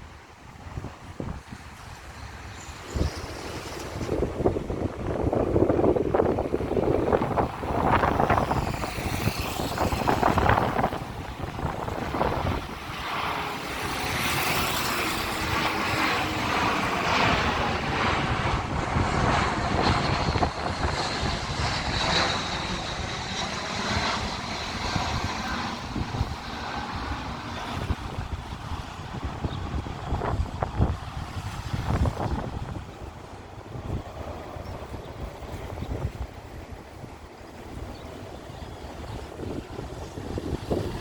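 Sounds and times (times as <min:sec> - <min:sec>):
jet aircraft passing overhead: 0:00.0 - 0:41.0
wind gusts on microphone: 0:00.0 - 0:41.0.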